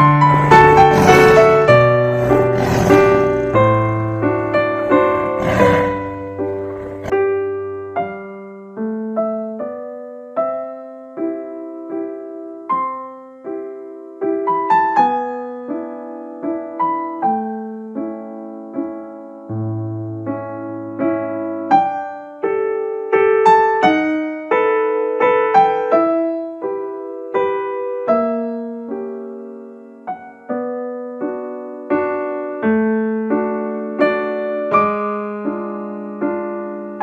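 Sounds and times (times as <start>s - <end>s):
slow piano melody: 0.0s - 37.0s.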